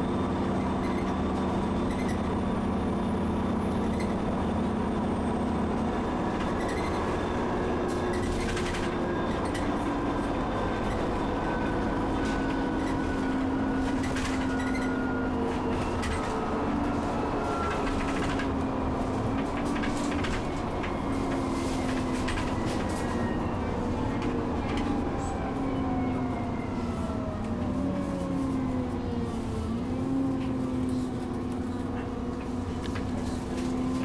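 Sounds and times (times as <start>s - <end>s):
bus body rattling and clicking: 0.0s - 34.0s
bus engine and road drone: 0.0s - 34.0s.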